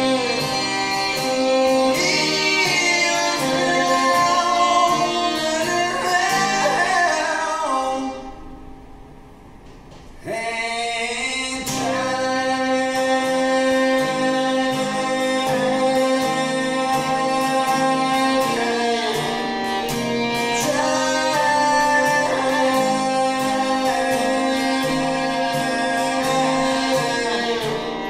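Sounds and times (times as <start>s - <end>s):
song with band and vocals: 0.0s - 8.7s, 10.0s - 28.0s.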